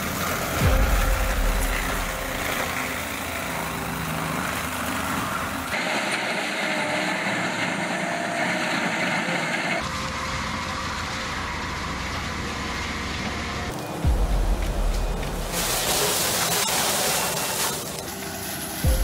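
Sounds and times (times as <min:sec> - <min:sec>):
diesel engine under load: 0:00.0 - 0:19.0
engine high whine: 0:00.0 - 0:19.0
mulcher grinding trees: 0:00.0 - 0:19.0.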